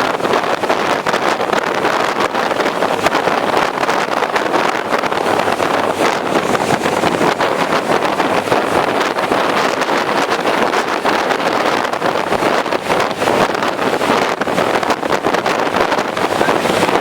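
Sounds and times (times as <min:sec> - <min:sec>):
boat engine rushing: 0:00.0 - 0:17.0
water noise: 0:00.0 - 0:17.0
wind buffeting microphone: 0:00.0 - 0:17.0.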